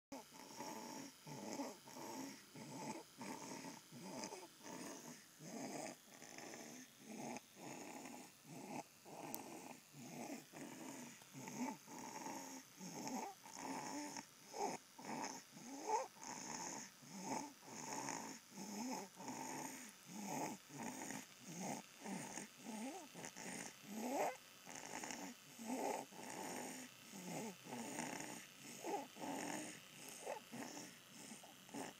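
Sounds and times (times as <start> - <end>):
baby snoring: 0.1 - 31.9.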